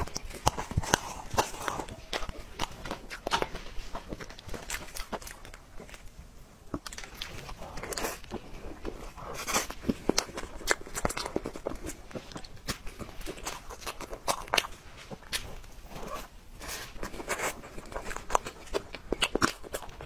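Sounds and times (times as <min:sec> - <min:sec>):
mouth sounds of eating: 0:00.0 - 0:20.0.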